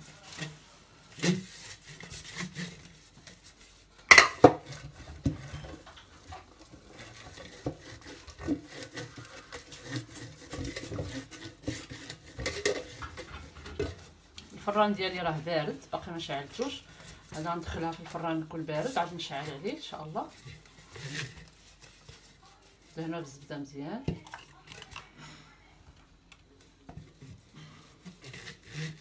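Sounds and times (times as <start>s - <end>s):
hand rubbing inside metal tin: 0.0s - 23.5s, 27.1s - 29.0s.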